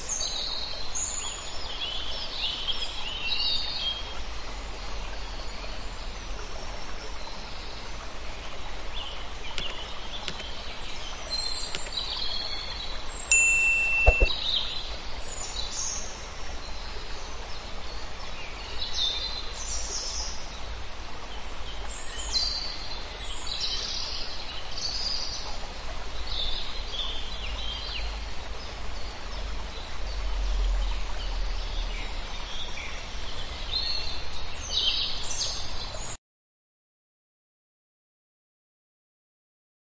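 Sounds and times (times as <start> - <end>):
outdoor background hiss: 0.0 - 36.2.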